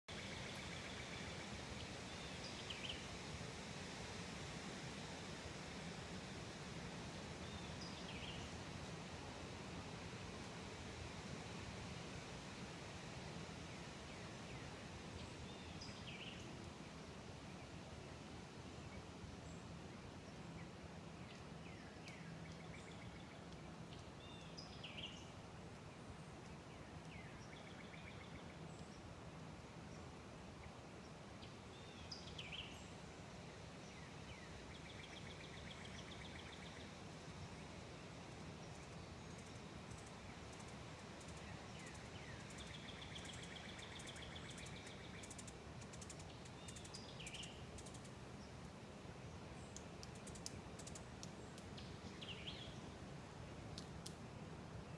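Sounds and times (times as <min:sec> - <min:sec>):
faint outdoor background noise: 0:00.0 - 0:54.9.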